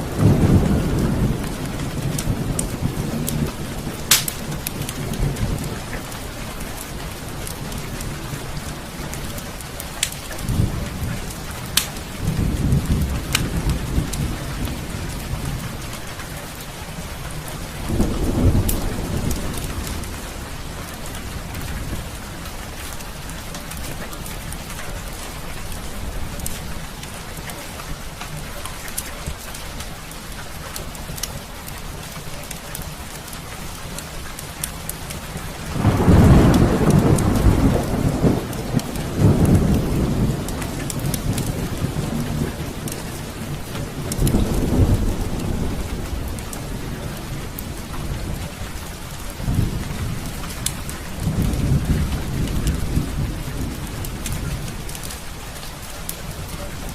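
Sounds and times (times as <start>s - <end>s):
low rumbles of thunder: 0.0s - 27.0s, 35.2s - 56.9s
fireplace fire crackling: 0.0s - 56.9s
heavy rain pouring: 0.0s - 56.9s.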